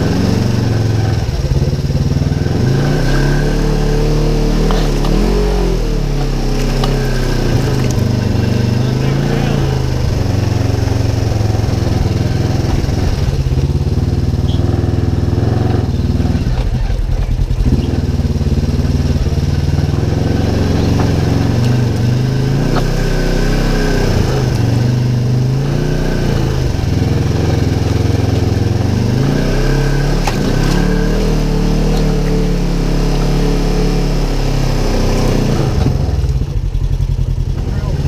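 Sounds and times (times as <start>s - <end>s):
engine revving: 0.0s - 38.0s.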